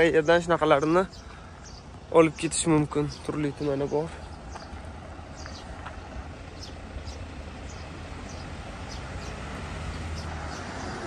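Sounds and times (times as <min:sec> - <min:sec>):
truck diesel engine rumbling: 0:00.0 - 0:11.0.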